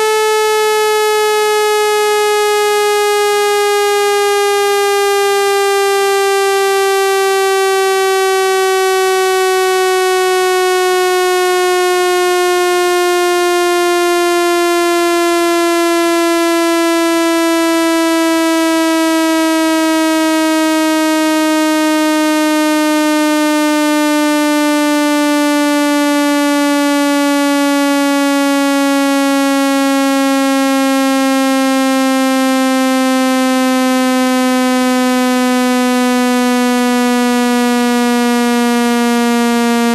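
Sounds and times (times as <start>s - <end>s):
buzzy electronic tone falling: 0.0s - 39.9s.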